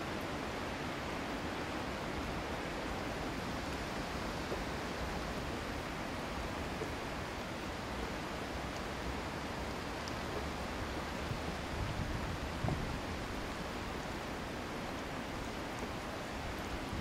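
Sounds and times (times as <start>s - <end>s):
river water rushing: 0.0s - 17.0s
wind: 0.0s - 17.0s.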